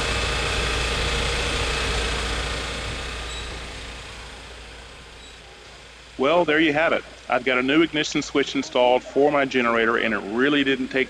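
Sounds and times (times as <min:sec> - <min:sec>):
generator running: 0:00.0 - 0:11.0.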